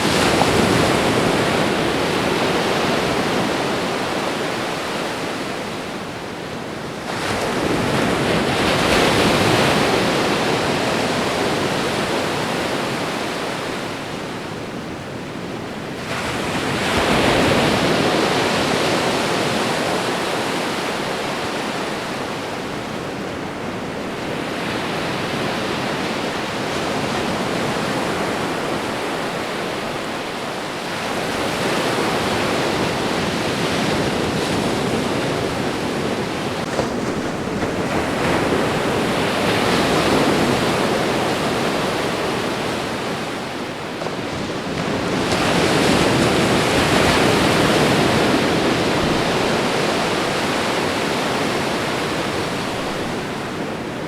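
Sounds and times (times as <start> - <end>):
ocean surf washing onto shore: 0.0 - 54.0.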